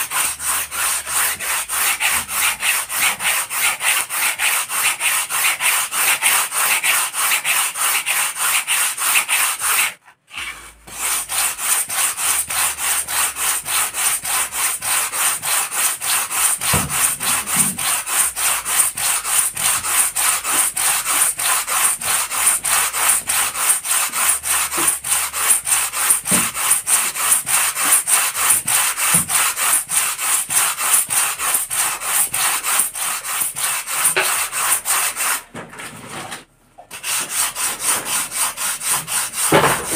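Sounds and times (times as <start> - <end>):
sandpaper rubbing on foam: 0.0 - 35.4.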